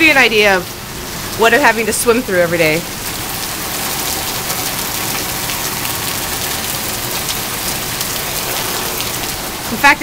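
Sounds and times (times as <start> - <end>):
pouring rain hiss: 0.0 - 10.0.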